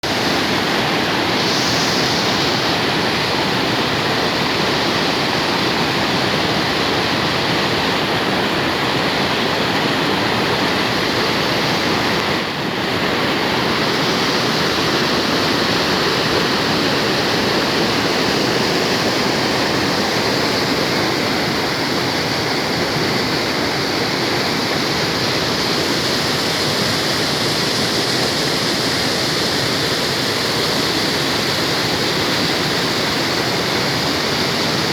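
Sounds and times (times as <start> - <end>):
spring water rushing and splashing: 0.0 - 34.9.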